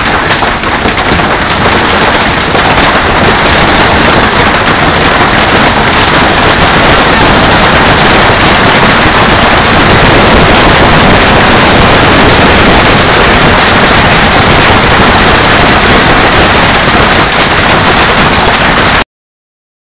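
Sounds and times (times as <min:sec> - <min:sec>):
hailstones pelting water and paving: 0:00.0 - 0:19.0.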